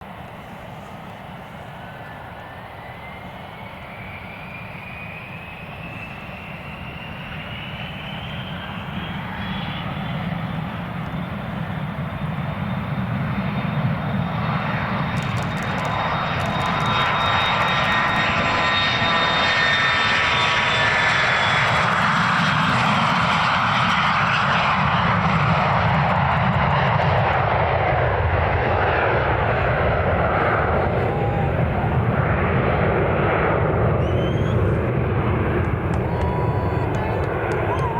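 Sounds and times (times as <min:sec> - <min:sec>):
jet engines at takeoff power: 0:00.0 - 0:37.9.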